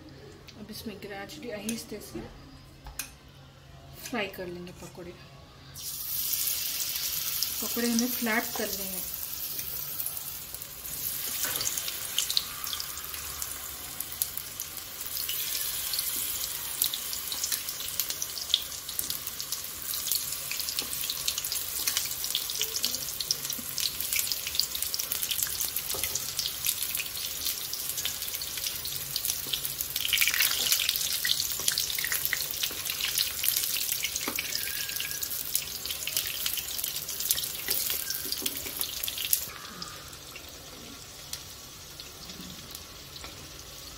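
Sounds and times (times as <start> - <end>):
batter deep-frying in oil: 5.8 - 43.9.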